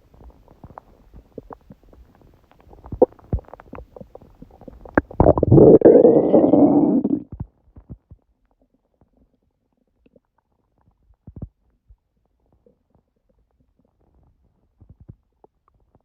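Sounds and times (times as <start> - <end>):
stomach gurgling: 0.0 - 16.0.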